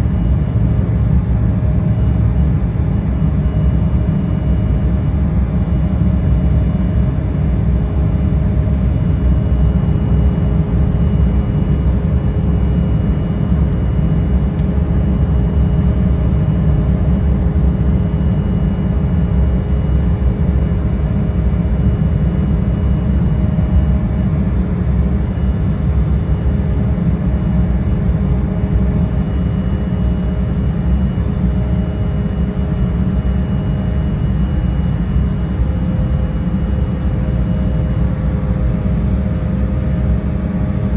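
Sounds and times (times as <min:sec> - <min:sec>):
airplane cabin engine rumble: 0:00.0 - 0:40.9
faint steady whining tones: 0:00.0 - 0:40.9.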